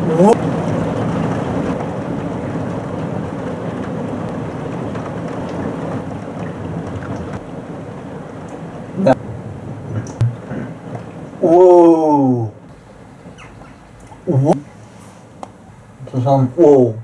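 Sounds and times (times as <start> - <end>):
low rumble of thunder: 0.0 - 14.8
rain falling: 0.0 - 16.8.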